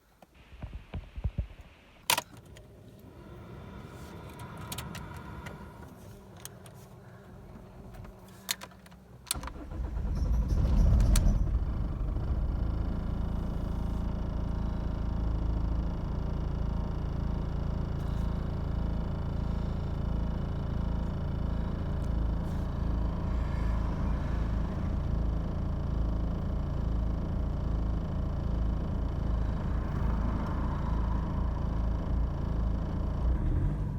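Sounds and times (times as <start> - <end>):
diesel engine starting and idling: 2.1 - 33.9.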